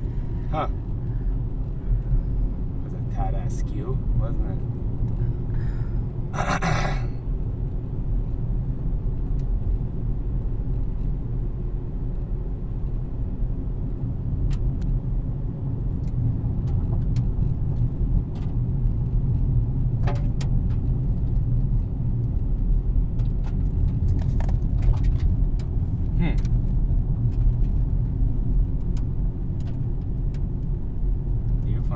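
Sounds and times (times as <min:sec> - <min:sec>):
car engine rumbling: 0:00.0 - 0:31.9.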